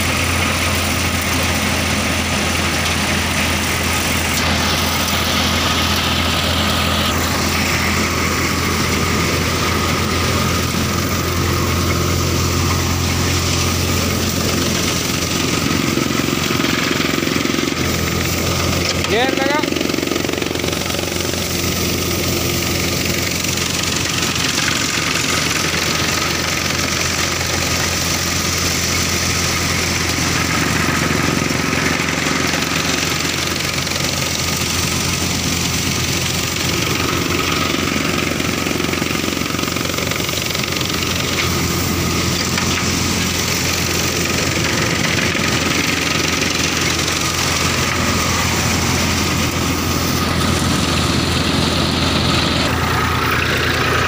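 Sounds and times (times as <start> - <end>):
tractor diesel engine and thresher: 0.0 - 54.0.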